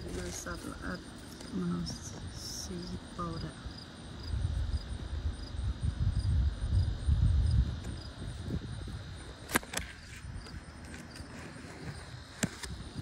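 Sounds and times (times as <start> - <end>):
high insect chirp: 0.0 - 13.0
insects trilling: 0.0 - 13.0
wind rumble on microphone: 0.0 - 13.0.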